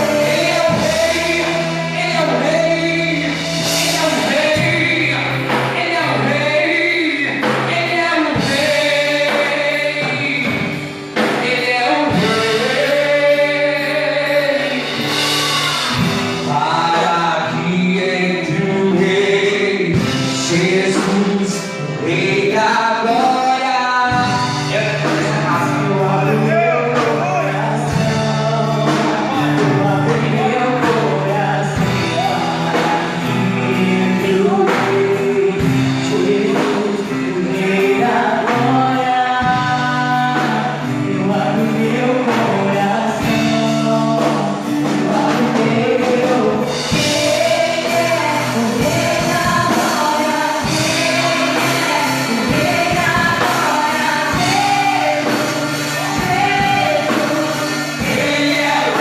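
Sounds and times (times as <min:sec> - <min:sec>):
gospel band with bass: 0:00.0 - 0:59.0
group of singers: 0:00.0 - 0:59.0.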